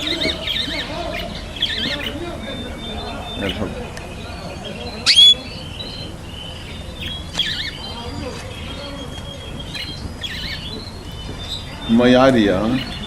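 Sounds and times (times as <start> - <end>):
small parrots chirping: 0.0 - 13.0.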